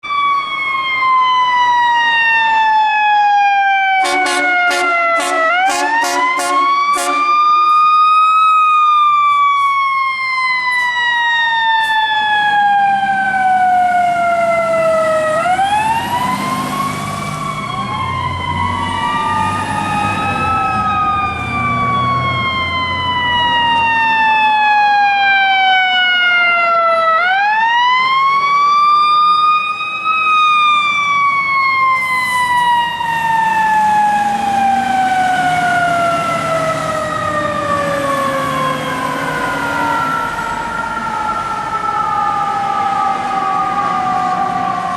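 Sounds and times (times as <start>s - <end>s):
fire truck sirens winding: 0.0s - 44.9s.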